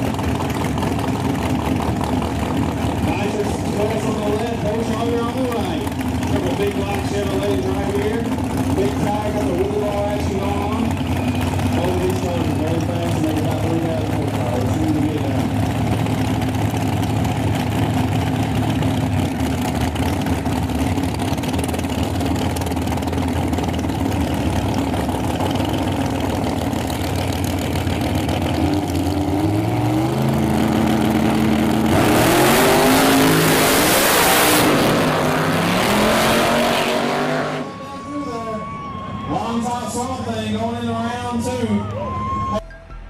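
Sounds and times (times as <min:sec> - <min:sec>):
race car engines idling and revving: 0:00.0 - 0:42.7.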